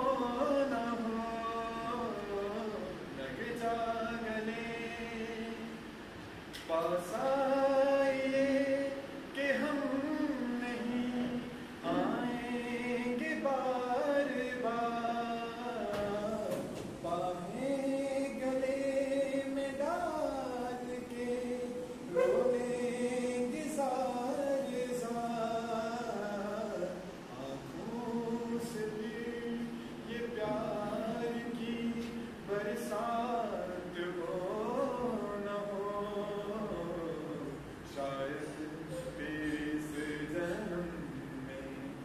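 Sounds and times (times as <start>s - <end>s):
man singing unaccompanied: 0.0s - 42.0s.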